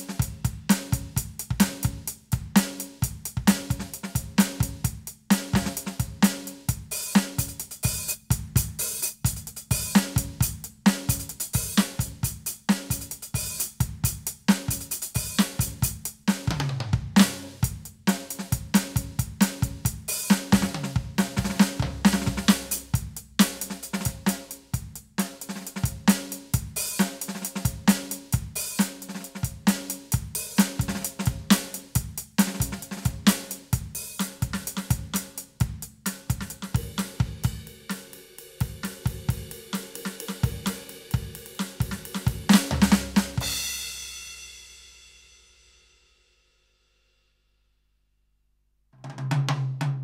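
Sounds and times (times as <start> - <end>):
electronic drum kit groove: 0.0 - 44.0.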